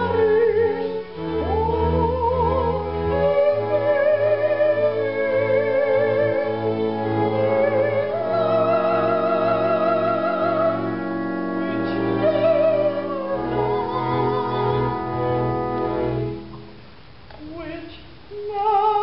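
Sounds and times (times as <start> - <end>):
woman singing operatically: 0.0 - 6.6, 7.2 - 10.9, 11.6 - 15.0, 17.4 - 19.0
instrumental accompaniment: 0.0 - 17.0.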